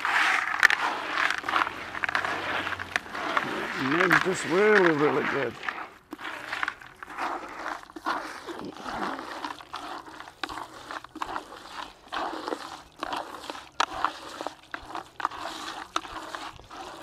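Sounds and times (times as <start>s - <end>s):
wet bait mash squelching: 0.0s - 17.0s.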